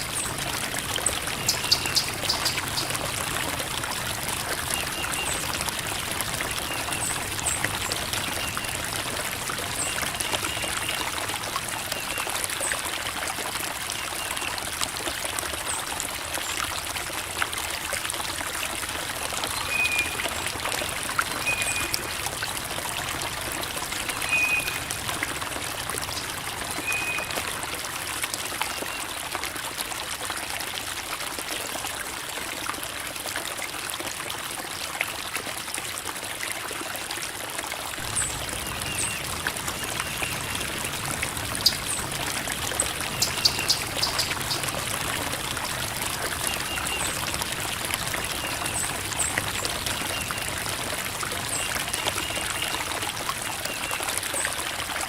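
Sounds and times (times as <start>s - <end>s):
creek water babbling over rocks: 0.0s - 55.0s.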